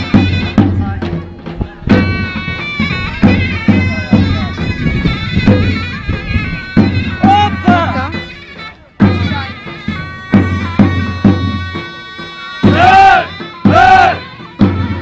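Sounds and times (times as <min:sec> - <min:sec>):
shrill reedy wind instrument melody: 0:00.0 - 0:15.0
steady drum beats: 0:00.0 - 0:15.0.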